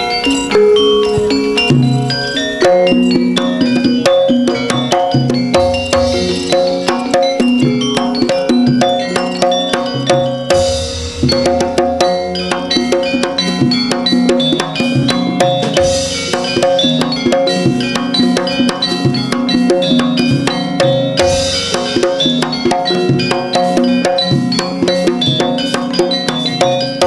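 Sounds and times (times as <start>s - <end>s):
drums: 0.0s - 27.0s
struck tuned percussion: 0.0s - 27.0s.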